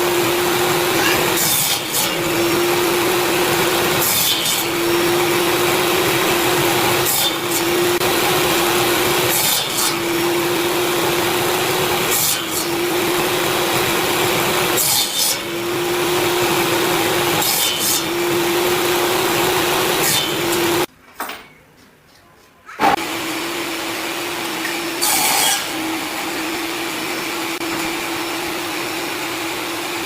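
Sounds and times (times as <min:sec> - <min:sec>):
power tool cutting log: 0:00.0 - 0:20.9, 0:23.0 - 0:30.0.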